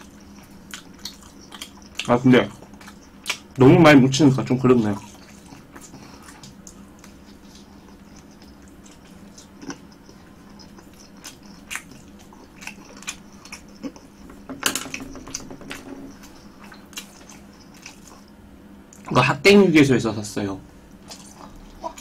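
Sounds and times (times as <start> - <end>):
person chewing food: 0.0 - 3.6, 4.3 - 19.1, 20.9 - 22.0.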